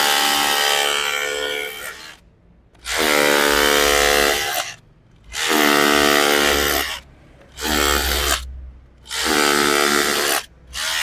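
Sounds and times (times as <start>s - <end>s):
rotary hammer chiselling concrete: 0.0s - 2.2s, 2.8s - 11.0s.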